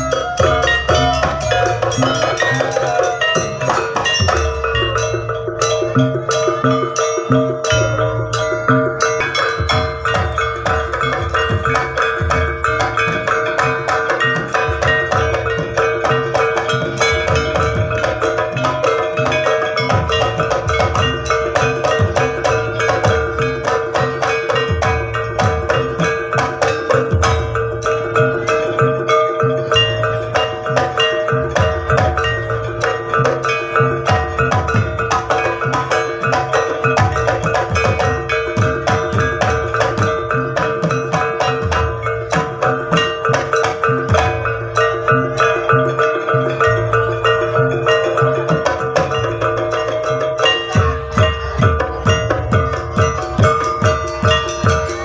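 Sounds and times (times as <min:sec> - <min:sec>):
drums and gamelan percussion: 0:00.0 - 0:55.0
held tone: 0:00.0 - 0:55.0
ringing metal gong-chimes: 0:00.0 - 0:55.0.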